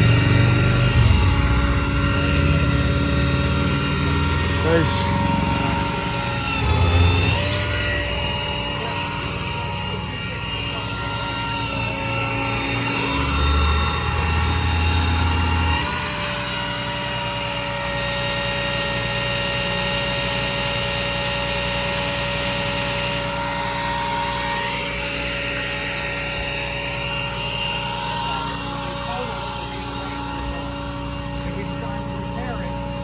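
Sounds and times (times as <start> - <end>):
vehicle engines idling in traffic: 0.0 - 33.0.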